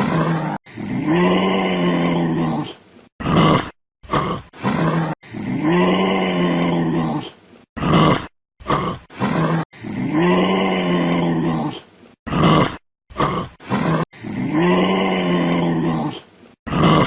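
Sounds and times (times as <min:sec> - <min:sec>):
animal growling and grunting: 0:00.0 - 0:17.0.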